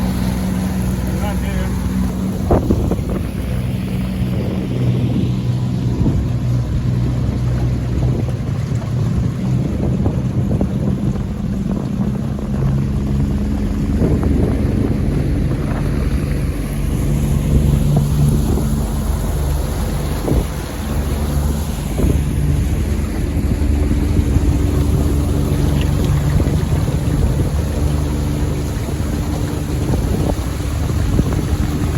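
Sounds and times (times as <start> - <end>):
outboard boat motor running: 0.0 - 31.9
wind noise on microphone: 0.0 - 31.9.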